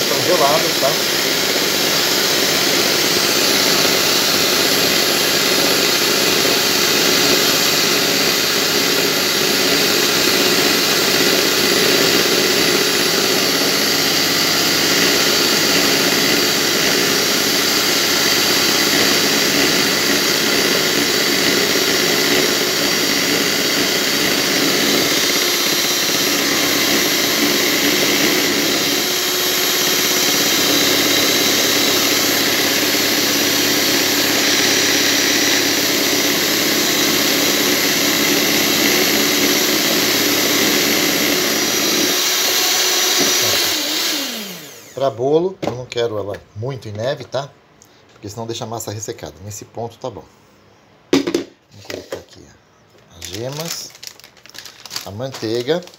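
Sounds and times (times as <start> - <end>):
stand mixer running: 0.0 - 45.1.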